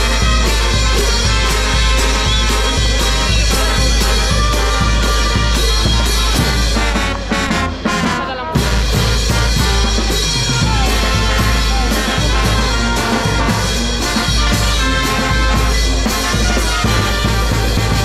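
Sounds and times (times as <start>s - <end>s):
brass band music: 0.0s - 18.0s
steady bass: 0.0s - 18.0s.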